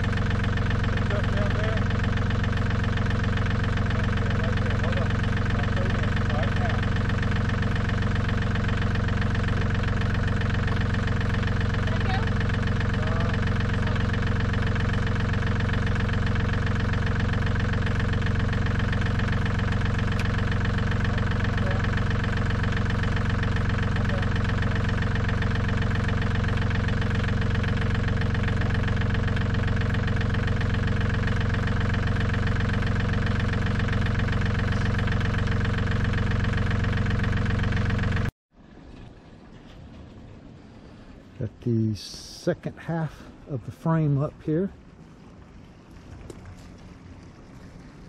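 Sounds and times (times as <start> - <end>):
diesel tractor engine idling: 0.0 - 38.4, 39.2 - 48.0.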